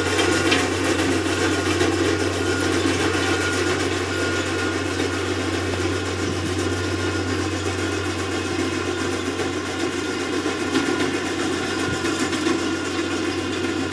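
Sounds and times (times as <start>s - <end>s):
diesel engine running under load: 0.0s - 13.9s
low hum: 0.6s - 12.9s.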